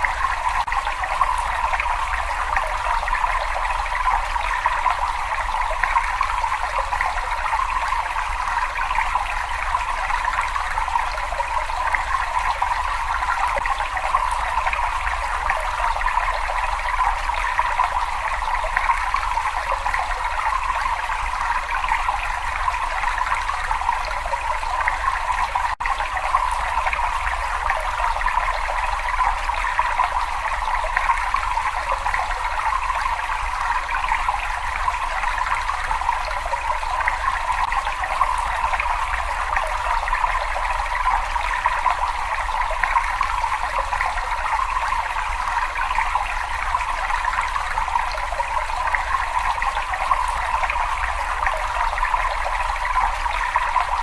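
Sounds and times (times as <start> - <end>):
water rushing and trickling: 0.0 - 54.0.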